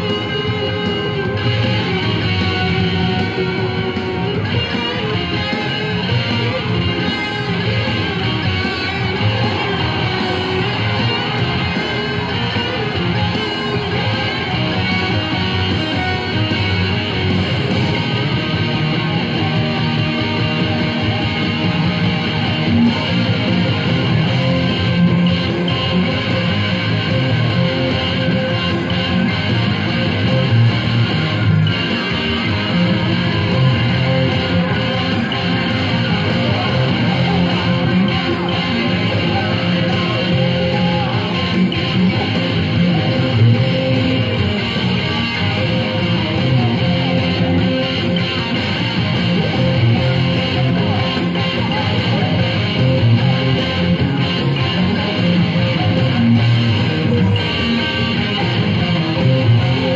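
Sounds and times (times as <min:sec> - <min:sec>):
electric guitar riff: 0:00.0 - 0:59.9.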